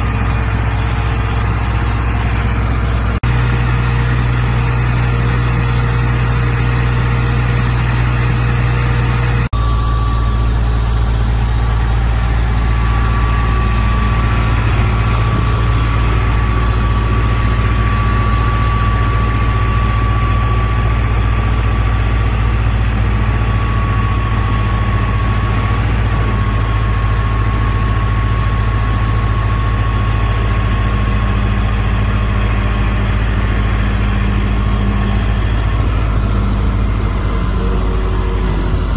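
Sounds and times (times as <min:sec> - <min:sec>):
diesel engine idling: 0:00.0 - 0:38.9
steady high whine: 0:00.0 - 0:38.9.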